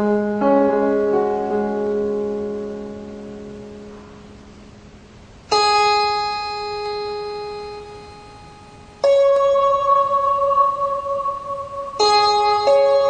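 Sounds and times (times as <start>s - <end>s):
slow keyboard notes ringing: 0.0s - 13.0s.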